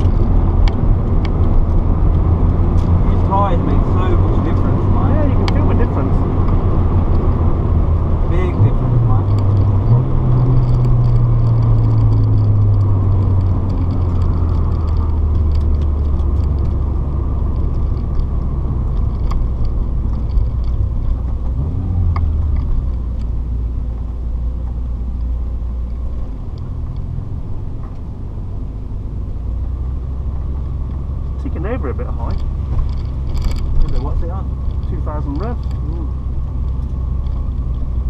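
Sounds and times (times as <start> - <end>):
car engine drone: 0.0 - 38.0
road noise: 0.0 - 38.0.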